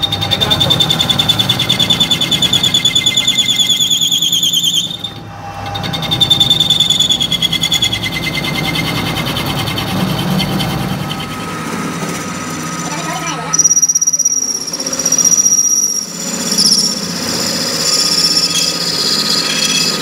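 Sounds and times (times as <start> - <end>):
lathe cutting tool squealing: 0.0 - 20.0
machine humming: 0.0 - 20.0.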